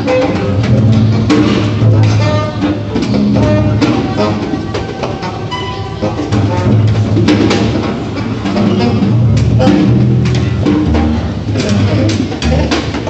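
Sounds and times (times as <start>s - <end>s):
double bass notes: 0.0s - 13.0s
drum knocks: 0.0s - 13.0s
saxophone tones: 1.7s - 7.4s, 8.2s - 13.0s.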